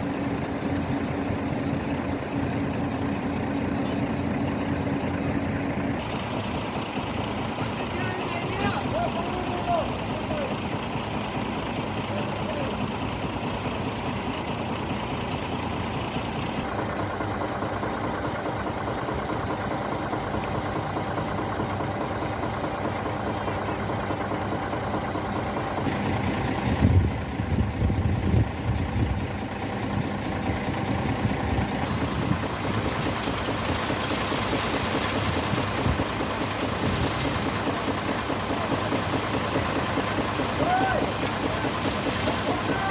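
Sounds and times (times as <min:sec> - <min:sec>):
construction machinery engine running: 0:00.0 - 0:42.9.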